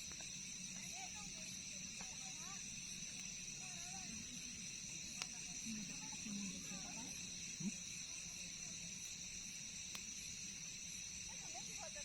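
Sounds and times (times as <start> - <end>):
faint distant voices: 0.0 - 9.5, 11.2 - 12.0
night insects trilling: 0.0 - 12.0.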